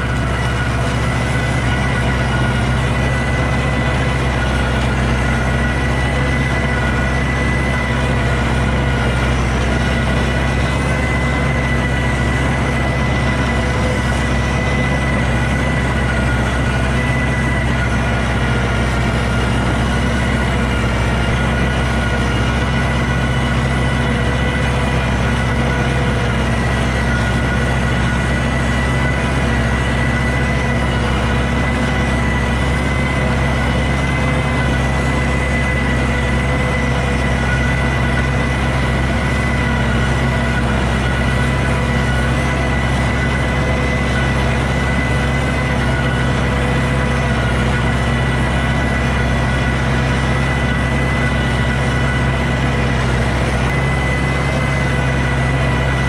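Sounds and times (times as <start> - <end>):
high whine: 0.0 - 56.0
tractor diesel engine running: 0.0 - 56.0.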